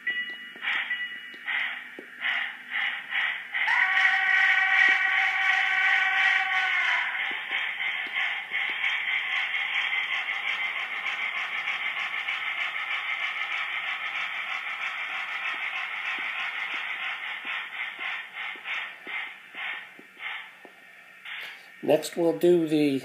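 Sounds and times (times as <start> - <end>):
model steam locomotive chuffs: 0.0 - 23.0.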